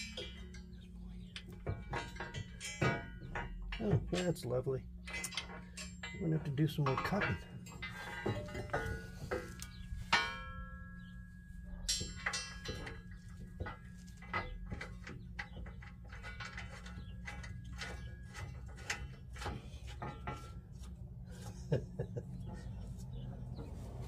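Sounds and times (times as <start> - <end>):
metal brace clanking: 0.0 - 24.0.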